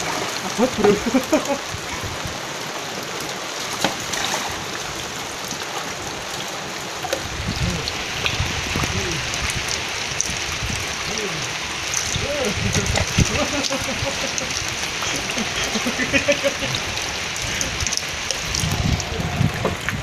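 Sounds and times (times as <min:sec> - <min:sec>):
light rain on water: 0:00.0 - 0:20.0.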